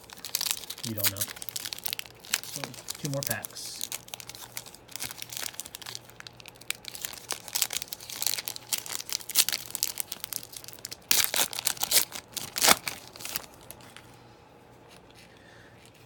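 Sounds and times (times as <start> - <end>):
plastic wrapper crinkling and tearing: 0.0 - 14.0.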